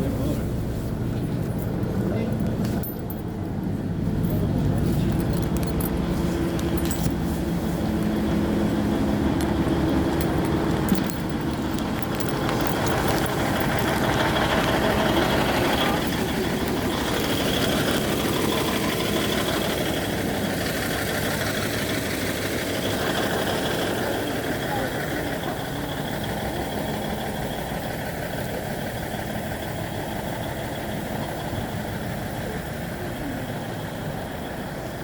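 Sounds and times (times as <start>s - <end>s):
railcar diesel engine running: 0.0s - 35.0s.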